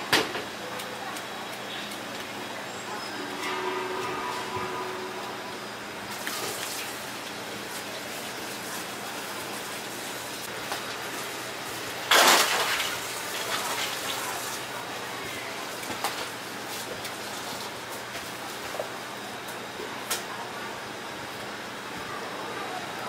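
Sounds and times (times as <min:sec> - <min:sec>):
bakery kitchen background noise: 0:00.0 - 0:23.0.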